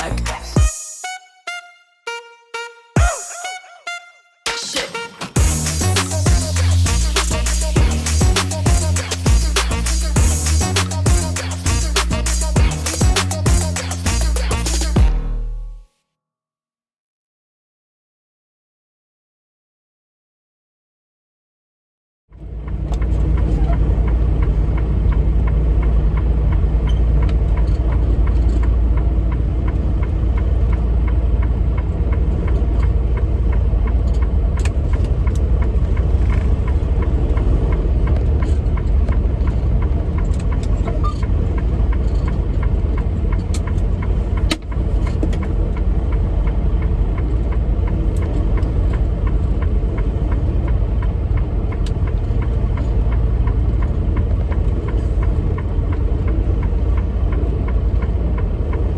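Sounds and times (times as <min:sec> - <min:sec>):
diesel truck engine rumbling: 0:00.0 - 0:00.6, 0:05.4 - 0:15.8, 0:22.3 - 0:58.9.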